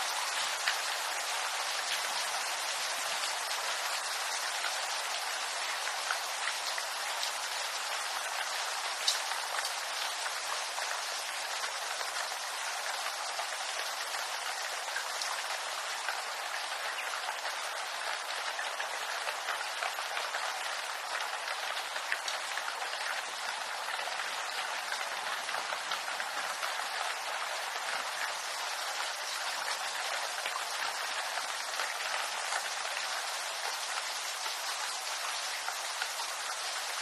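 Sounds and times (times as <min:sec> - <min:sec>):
rain pattering on leaves: 0:00.0 - 0:37.0.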